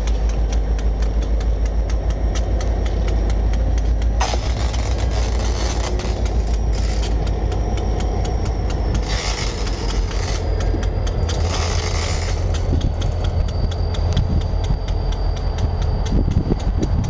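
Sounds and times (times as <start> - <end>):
diesel locomotive engine droning: 0.0 - 17.0
fast even ticking: 0.0 - 17.0.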